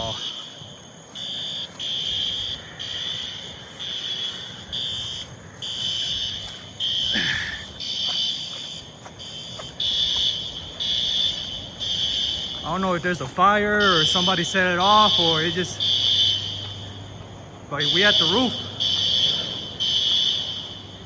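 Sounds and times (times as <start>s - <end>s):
fire alarm horns blasting: 0.0s - 21.0s.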